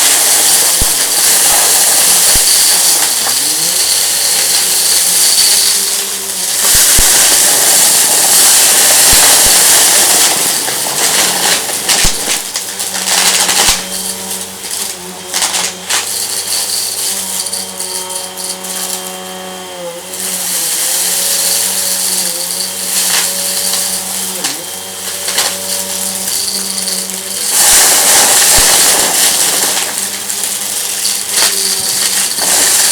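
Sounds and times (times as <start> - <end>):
debris clicking through vacuum: 0.0 - 32.9
vacuum cleaner running: 0.0 - 32.9.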